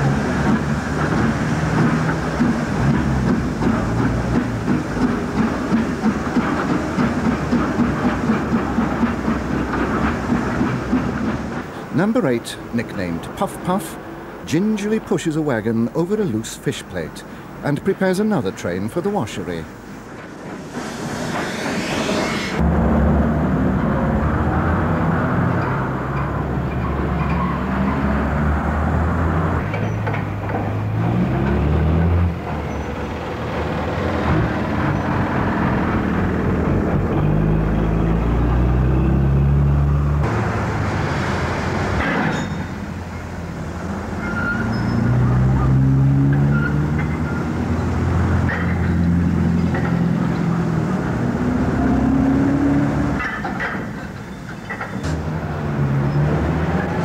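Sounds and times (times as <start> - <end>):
engine running under load: 0.0 - 15.2, 19.4 - 57.0.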